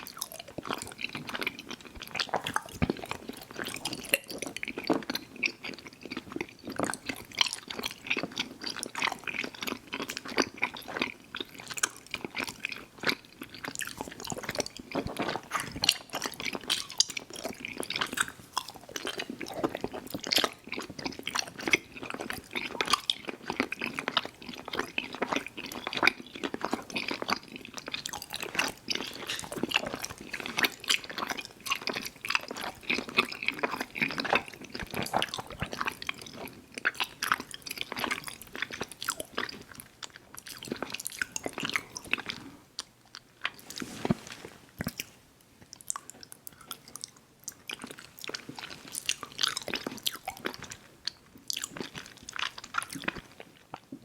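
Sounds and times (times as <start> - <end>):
wet chewing and mouth smacking: 0.0 - 54.0.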